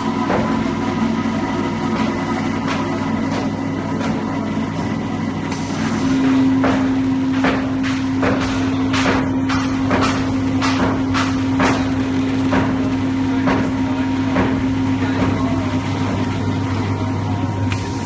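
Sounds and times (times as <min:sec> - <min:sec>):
machine motor and blower hum: 0:00.0 - 0:18.0.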